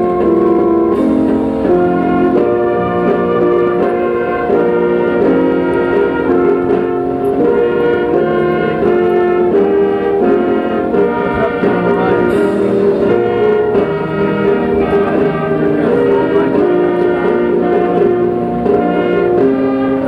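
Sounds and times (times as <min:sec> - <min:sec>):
brass ensemble playing: 0:00.0 - 0:20.0.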